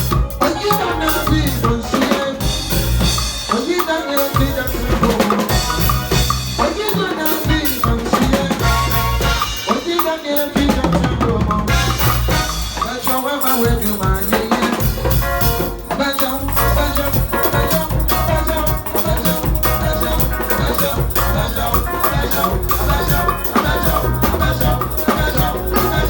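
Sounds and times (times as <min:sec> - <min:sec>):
drum kit: 0:00.0 - 0:26.0
live band music: 0:00.0 - 0:26.0.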